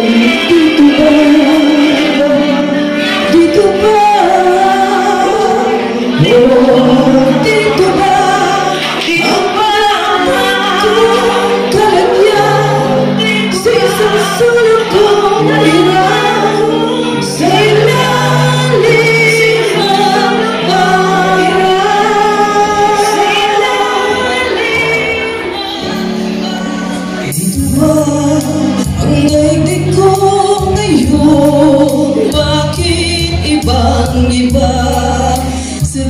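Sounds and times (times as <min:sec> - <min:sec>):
backing track of sustained chords: 0:00.0 - 0:36.0
woman singing a ballad: 0:00.0 - 0:36.0.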